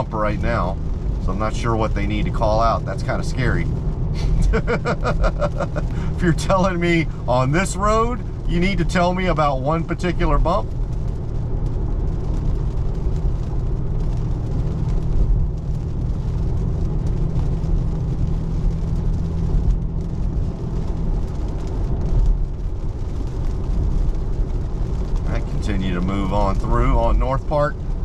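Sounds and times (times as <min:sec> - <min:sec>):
tyres rolling on wet pavement: 0:00.0 - 0:28.0.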